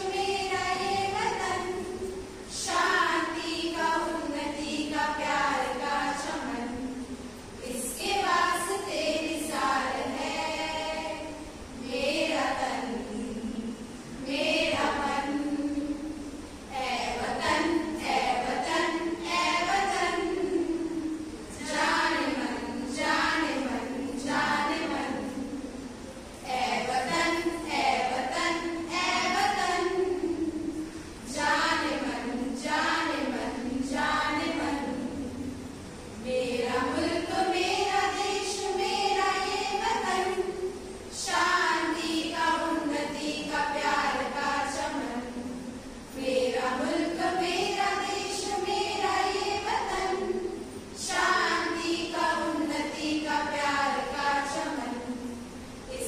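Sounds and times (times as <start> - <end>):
women singing in unison: 0.0 - 56.0.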